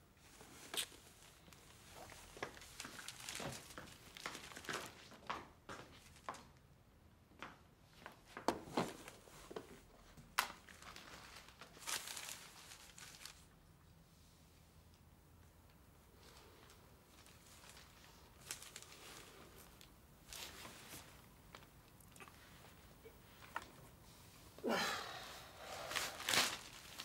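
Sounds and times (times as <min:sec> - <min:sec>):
rustling and crinkling: 0:00.1 - 0:06.6, 0:08.0 - 0:13.9, 0:14.9 - 0:24.6, 0:25.6 - 0:27.0.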